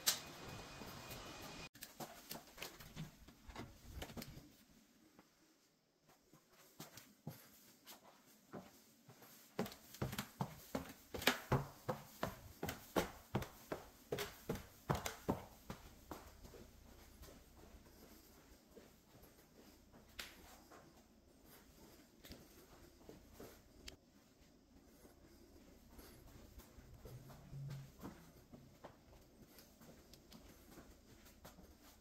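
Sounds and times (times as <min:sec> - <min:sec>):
footsteps in a room: 0:00.3 - 0:32.0.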